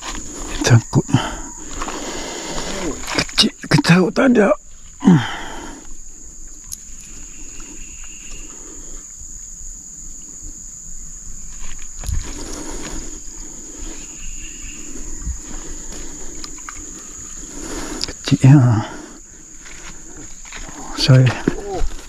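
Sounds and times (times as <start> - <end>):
faint insect trill: 0.0 - 22.0
high-pitched insect drone: 0.0 - 22.0.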